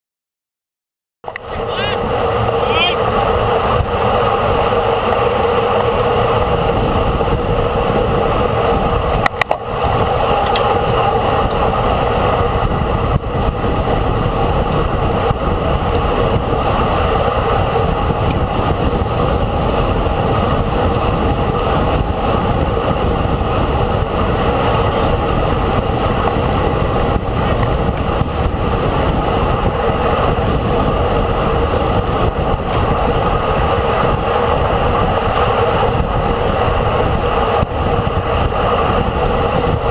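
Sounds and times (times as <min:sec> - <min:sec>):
road noise: 0:01.2 - 0:39.9
vehicle engine hum: 0:01.2 - 0:39.9
wind noise: 0:01.3 - 0:39.9.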